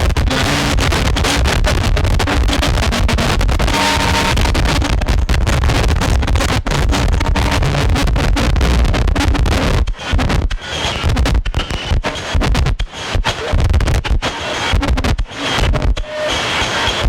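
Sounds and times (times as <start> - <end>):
distorted harsh noise music: 0.0 - 17.0.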